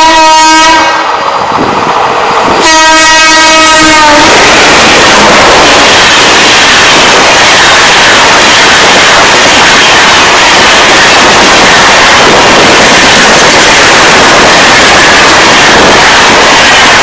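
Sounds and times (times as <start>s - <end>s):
train coaches passing at speed: 0.0s - 17.0s.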